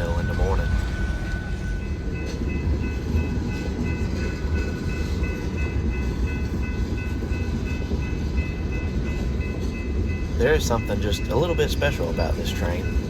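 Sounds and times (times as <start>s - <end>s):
crossing bell ringing: 0.0s - 13.0s
freight train rumbling past: 0.0s - 13.0s.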